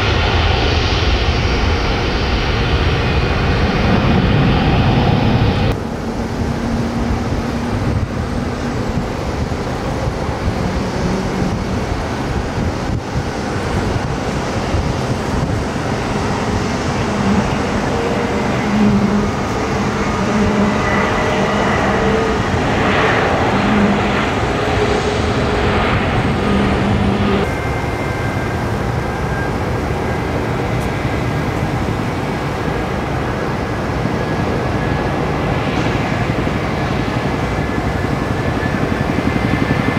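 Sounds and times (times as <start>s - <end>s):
jet engines rumbling with whine: 0.0s - 39.9s.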